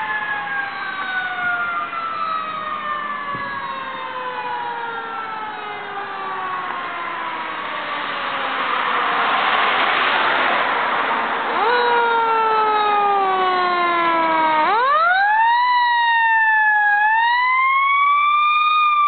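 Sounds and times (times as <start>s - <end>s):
truck engine roar: 0.0s - 15.7s
fire engine siren: 0.0s - 19.0s.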